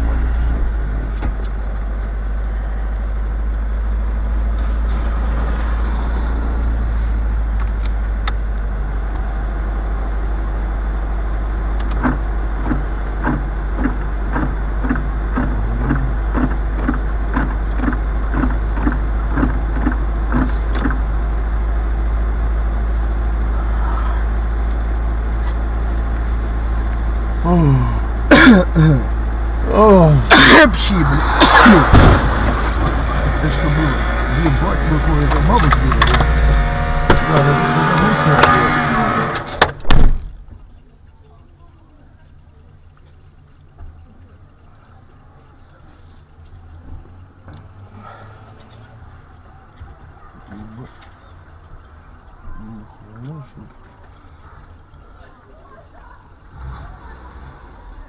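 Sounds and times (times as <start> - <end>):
car engine and road rumble: 0.0 - 58.0
regular ticking: 0.0 - 58.0.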